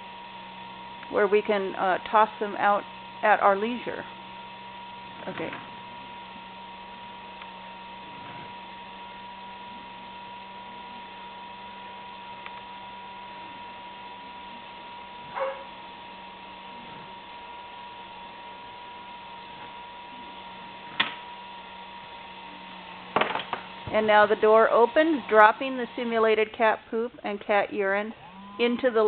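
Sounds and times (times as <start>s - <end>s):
litter box motor humming: 0.0s - 29.0s.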